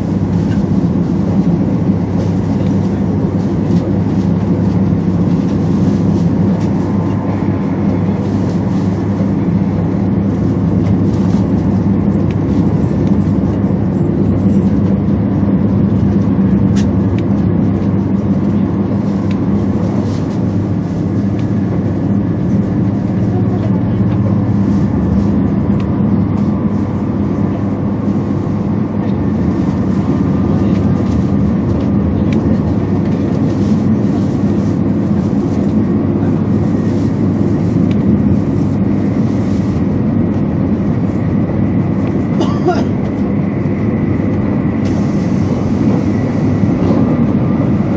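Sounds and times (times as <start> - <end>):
train rumble and hiss inside cabin: 0.0 - 47.9.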